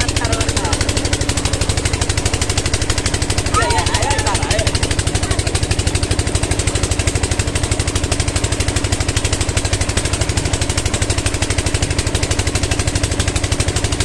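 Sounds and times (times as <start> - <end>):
pump engine chugging: 0.0 - 14.0
water gushing from pipe: 0.0 - 14.0.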